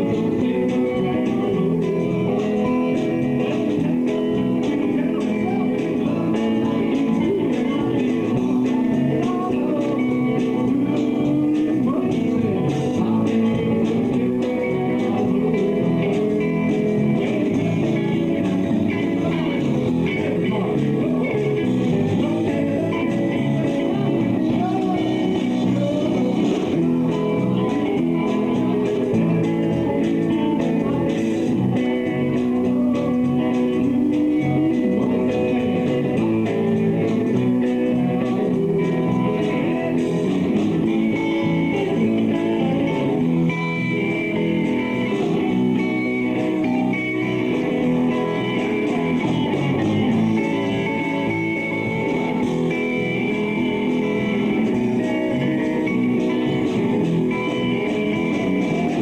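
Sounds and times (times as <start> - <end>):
bass guitar: 0.0 - 59.0
electric guitar: 0.0 - 59.0
live band playing instrumental: 0.0 - 59.0.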